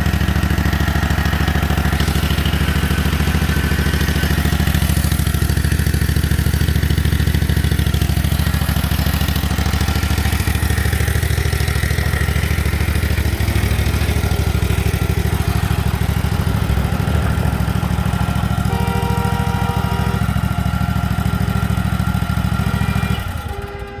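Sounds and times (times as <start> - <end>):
backhoe engine running: 0.0 - 24.0.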